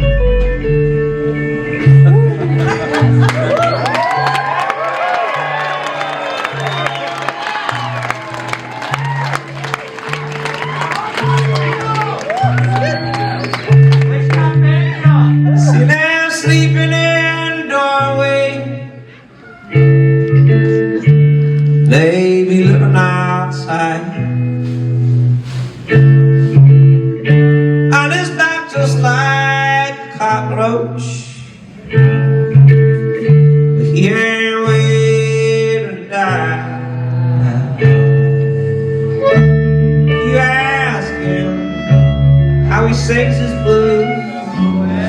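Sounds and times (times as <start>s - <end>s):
bass line: 0.0s - 19.0s, 19.8s - 45.0s
band playing blues: 0.0s - 45.0s
guitar lead bending notes: 0.0s - 45.0s.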